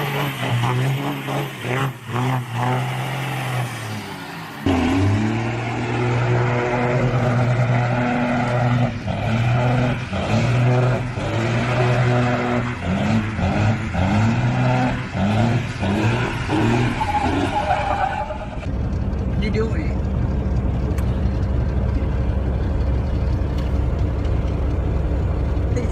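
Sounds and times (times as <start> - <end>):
vehicle engine revving: 0.0 - 25.9.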